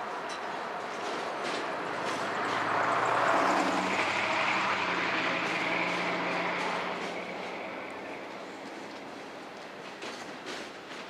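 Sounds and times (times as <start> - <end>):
train wheels rushing on track: 0.0 - 11.0.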